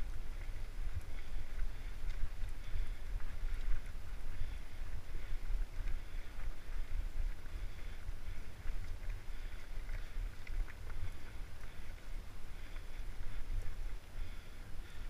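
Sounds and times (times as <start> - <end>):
tyres crackling over gravel: 0.0 - 15.0
wind rumbling on microphone: 0.0 - 15.0.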